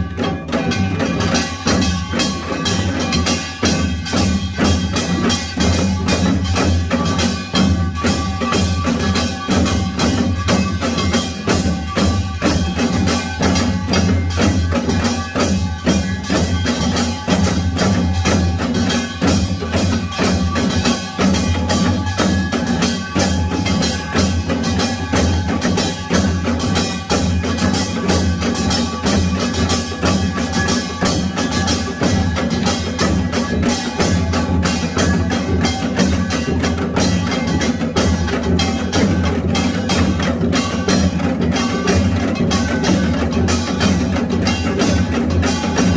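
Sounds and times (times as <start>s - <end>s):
percussion ensemble playing: 0.0s - 45.9s
rapid gong and drum strikes: 0.0s - 45.9s
ringing gongs: 0.0s - 45.9s.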